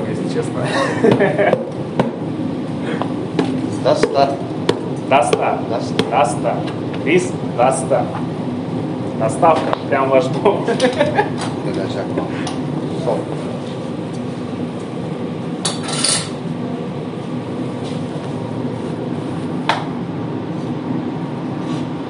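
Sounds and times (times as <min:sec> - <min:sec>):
low hum of kitchen equipment: 0:00.0 - 0:22.0.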